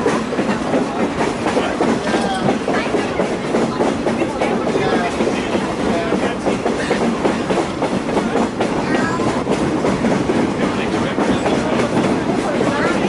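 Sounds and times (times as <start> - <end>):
train cars rumbling on track: 0.0 - 13.0
wheels clicking over rail joints: 0.0 - 13.0.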